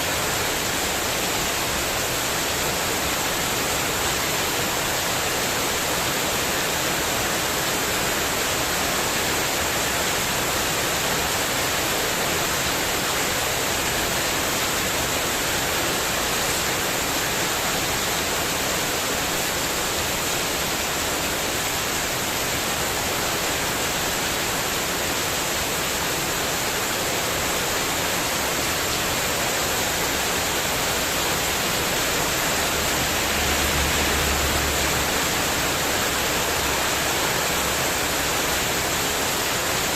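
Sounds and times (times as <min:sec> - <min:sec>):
heavy rain on a metal roof: 0:00.0 - 0:39.9
wind: 0:00.0 - 0:39.9.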